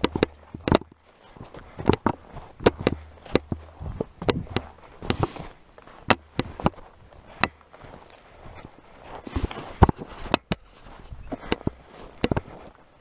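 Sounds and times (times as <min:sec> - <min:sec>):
footsteps crunching on frozen ground: 0:00.0 - 0:13.0.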